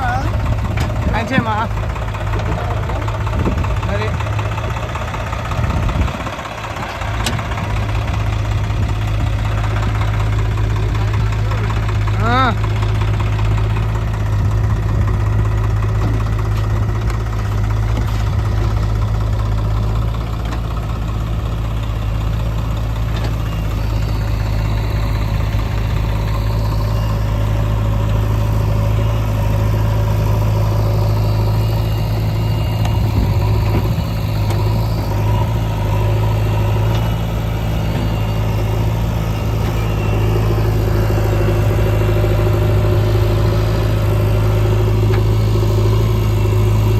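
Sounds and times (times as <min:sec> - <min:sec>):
diesel engine humming: 0:00.0 - 0:46.9.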